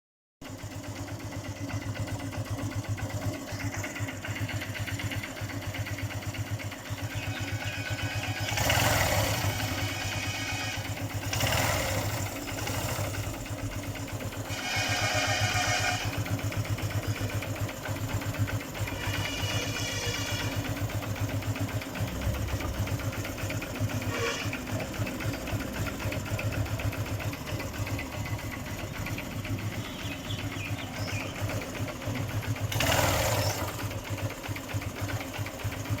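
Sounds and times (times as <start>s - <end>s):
motorcycle engine idling with clattering tick: 0.4s - 36.0s.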